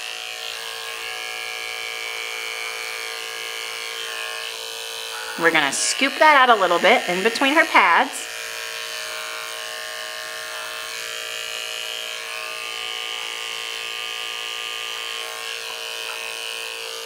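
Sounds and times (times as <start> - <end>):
electric pet clipper humming: 0.0 - 17.0.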